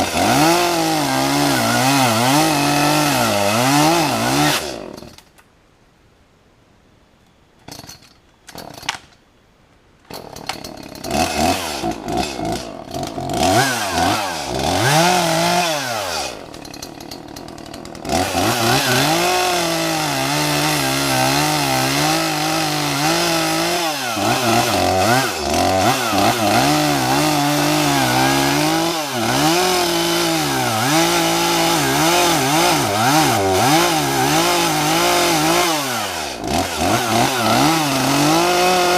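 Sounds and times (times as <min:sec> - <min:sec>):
chainsaw engine revving: 0:00.0 - 0:05.3, 0:10.1 - 0:38.9
chainsaw cutting wood: 0:00.0 - 0:05.4, 0:07.7 - 0:09.0, 0:10.1 - 0:38.9.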